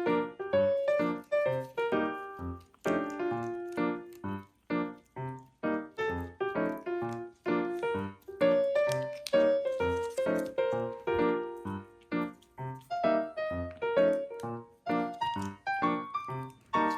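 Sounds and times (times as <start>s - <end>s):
piano melody: 0.0s - 16.9s.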